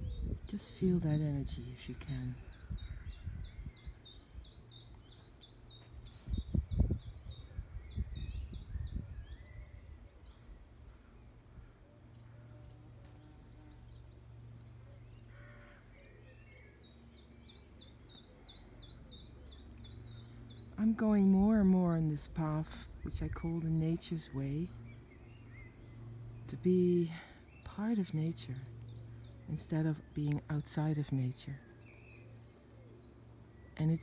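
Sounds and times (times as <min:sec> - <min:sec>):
songbird singing high repeated notes: 0:00.0 - 0:11.4, 0:12.0 - 0:34.0.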